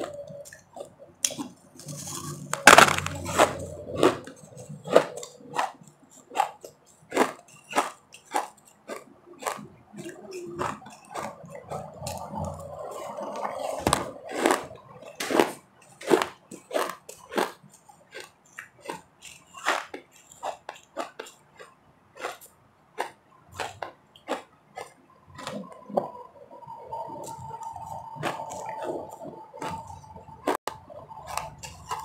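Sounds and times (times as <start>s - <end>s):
ice being chewed: 0.0s - 32.0s.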